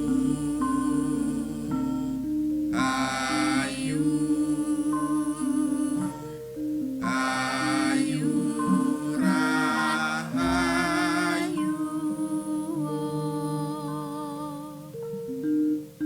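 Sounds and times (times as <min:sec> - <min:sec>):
person singing with vibrato: 0:00.0 - 0:15.4
gamelan ensemble playing: 0:00.0 - 0:16.0.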